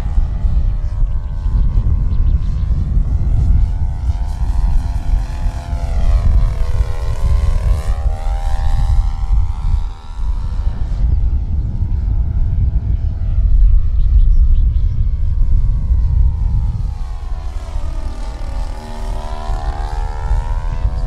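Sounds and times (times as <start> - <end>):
model airplane engine droning: 0.0 - 21.0
wind rumble on microphone: 0.0 - 21.0.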